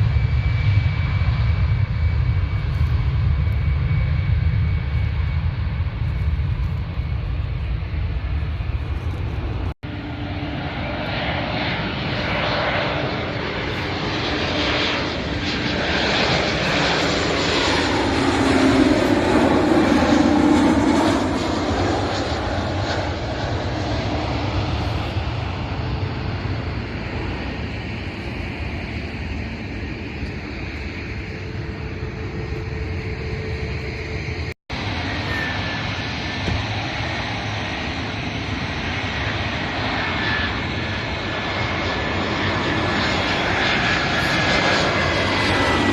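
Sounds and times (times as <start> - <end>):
airliner engine roar: 0.0 - 45.9.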